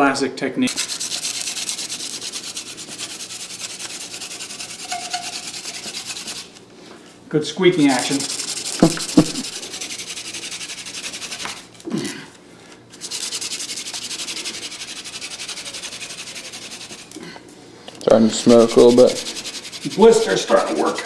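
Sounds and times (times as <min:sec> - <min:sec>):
wooden spindle rubbing and squeaking: 0:00.7 - 0:06.6, 0:07.8 - 0:11.8, 0:12.9 - 0:17.2, 0:18.0 - 0:21.0.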